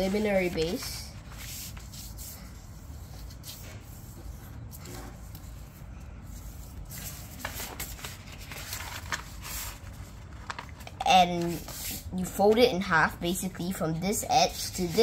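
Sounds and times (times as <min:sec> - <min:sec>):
paper rustling and crinkling: 0:00.0 - 0:12.6.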